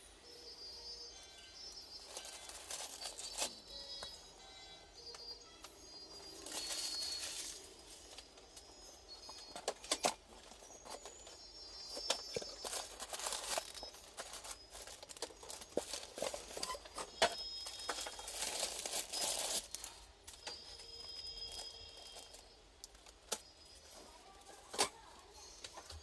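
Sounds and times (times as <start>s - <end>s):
faint high thin tones: 0.0s - 26.0s.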